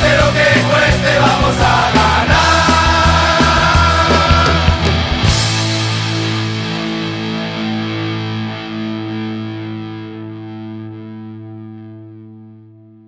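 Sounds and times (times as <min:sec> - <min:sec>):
distorted electric guitar chord ringing: 0:00.0 - 0:13.0.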